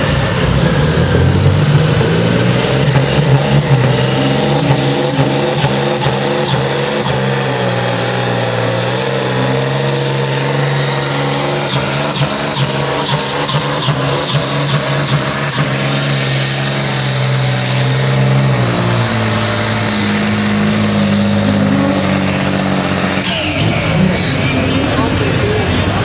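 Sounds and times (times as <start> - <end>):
truck diesel engine under full load: 0.0 - 26.0.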